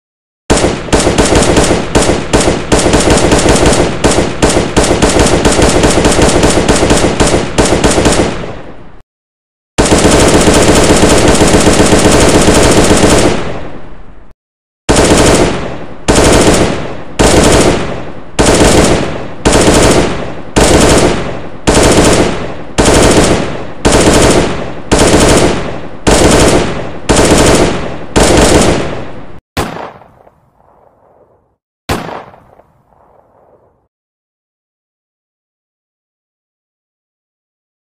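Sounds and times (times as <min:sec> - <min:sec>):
automatic gunfire: 0:00.5 - 0:08.6, 0:09.8 - 0:13.6, 0:14.9 - 0:33.9.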